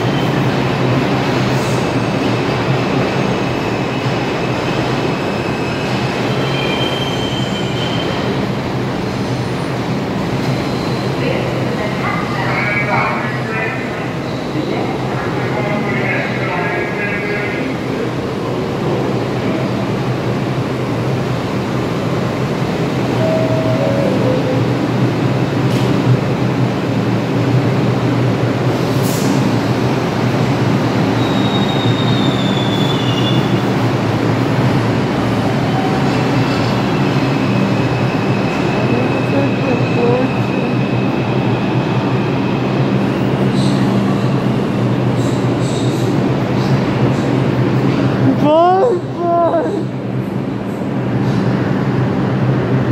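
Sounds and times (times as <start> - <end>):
train wheels rumbling on rails: 0.0 - 48.4.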